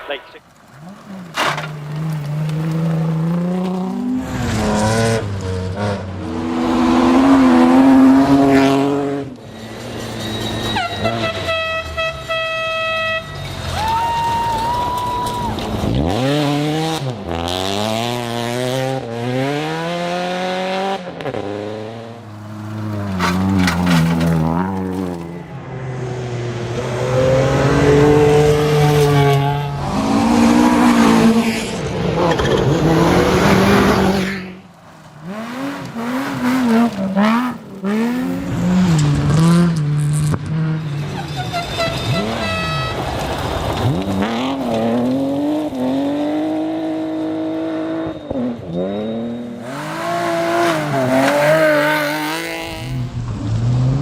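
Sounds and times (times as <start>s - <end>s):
rally car engines revving hard: 0.5s - 11.5s, 15.1s - 54.0s.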